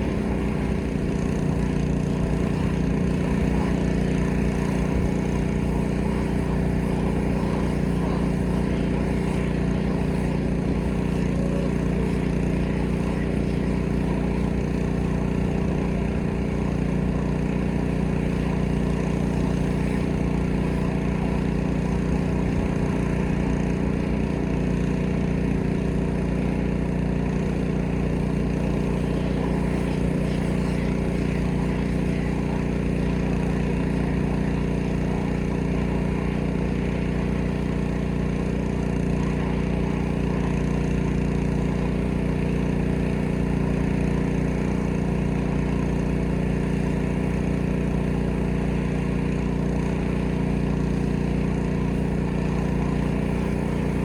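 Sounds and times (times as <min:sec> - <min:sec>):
water spray: 0:00.0 - 0:26.6, 0:27.2 - 0:54.0
small petrol engine running: 0:00.0 - 0:54.0.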